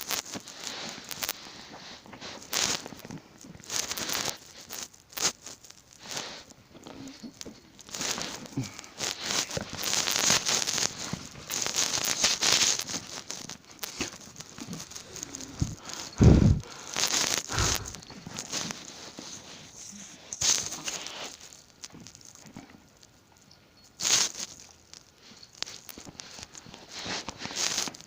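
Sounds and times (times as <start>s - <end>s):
cat rustling and scrabbling: 0.0s - 22.8s, 24.0s - 28.0s.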